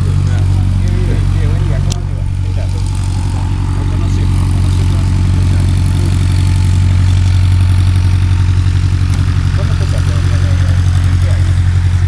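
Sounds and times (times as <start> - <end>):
piston engine idling: 0.0 - 12.0.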